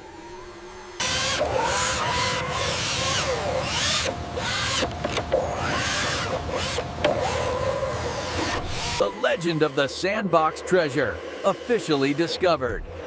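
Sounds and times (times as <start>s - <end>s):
toy truck motor whining: 0.0s - 13.0s.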